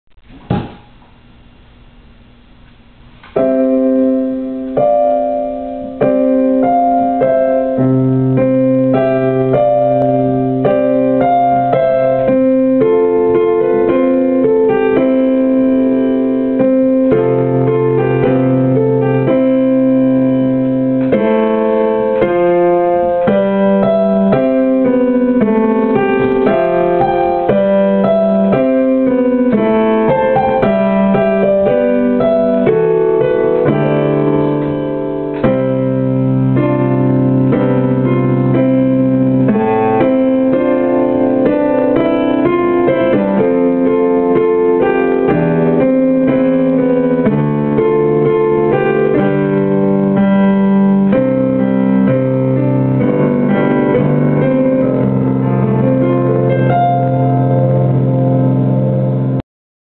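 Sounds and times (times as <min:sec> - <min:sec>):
slow piano melody: 0:00.1 - 0:59.4.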